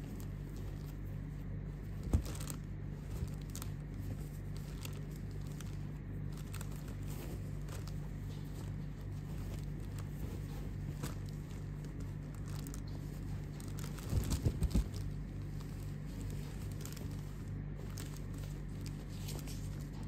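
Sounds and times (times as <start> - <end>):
fabric rustling: 0.0 - 20.0
steady low hum: 0.0 - 20.0.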